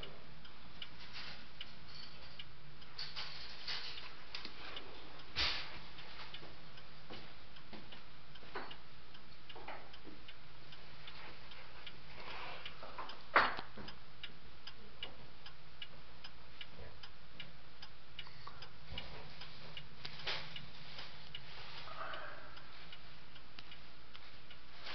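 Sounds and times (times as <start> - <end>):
clock ticking: 0.0 - 3.0, 4.0 - 24.9.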